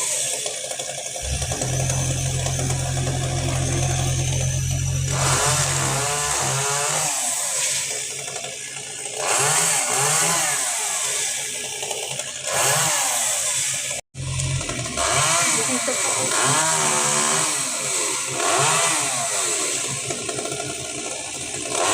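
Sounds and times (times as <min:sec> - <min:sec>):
chainsaw revving: 0:00.0 - 0:21.9.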